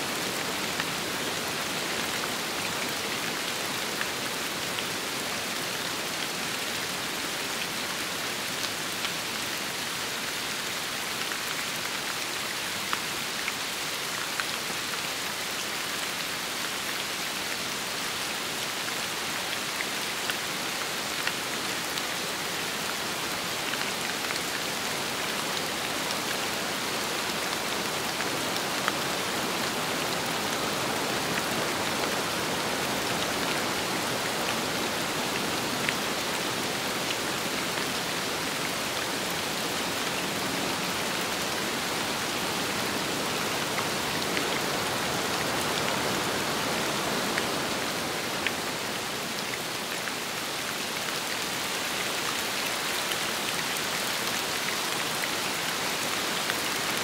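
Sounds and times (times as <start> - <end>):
rain falling: 0.0 - 57.0
wind: 0.0 - 57.0.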